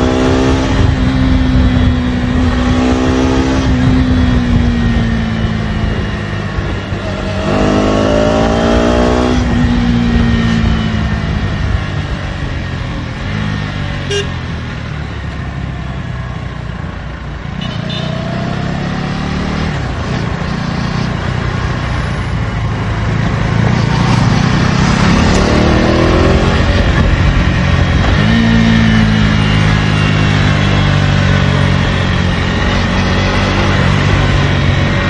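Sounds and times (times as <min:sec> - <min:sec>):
motorcycle engine revving while riding: 0:00.0 - 0:35.0.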